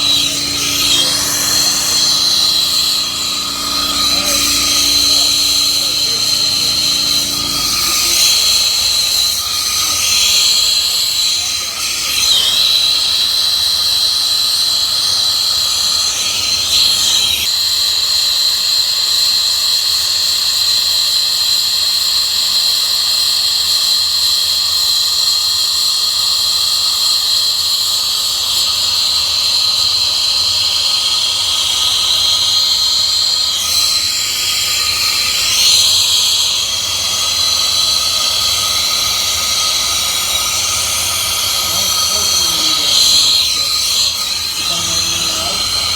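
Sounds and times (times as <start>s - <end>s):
torch hissing and whistling: 0.0s - 19.3s, 23.6s - 45.9s.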